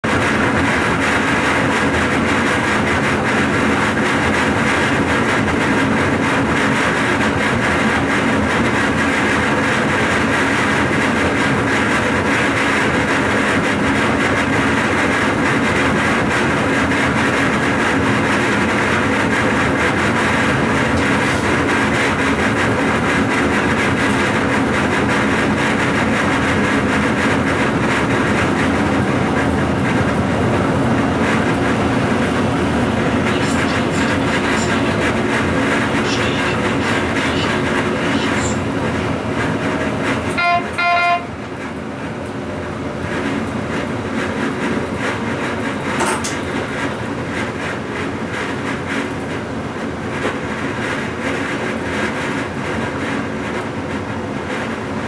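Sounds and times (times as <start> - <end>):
train wheels rolling on track: 0.0 - 55.0.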